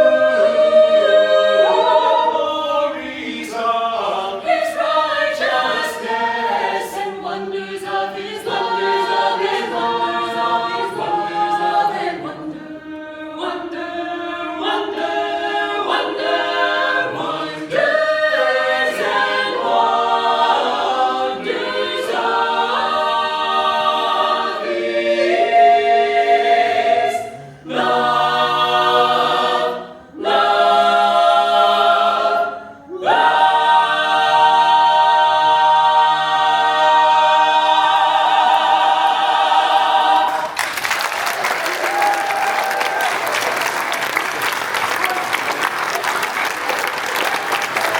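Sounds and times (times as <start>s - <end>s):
a cappella ensemble singing: 0.0s - 44.7s.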